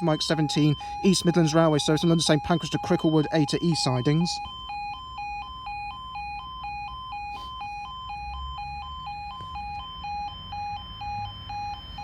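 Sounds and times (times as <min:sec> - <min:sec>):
two-tone level crossing alarm: 0:00.0 - 0:12.0.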